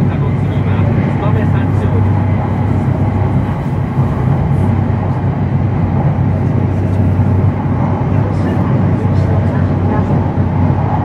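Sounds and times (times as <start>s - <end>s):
broad rushing noise: 0.0s - 11.0s
train running rumble: 0.0s - 11.0s.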